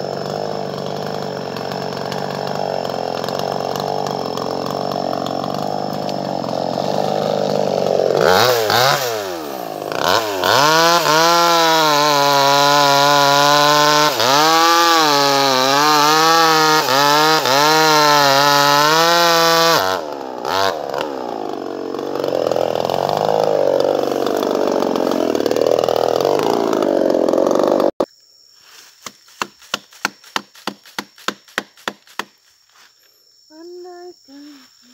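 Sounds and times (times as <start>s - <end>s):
chainsaw engine revving: 0.0s - 28.0s.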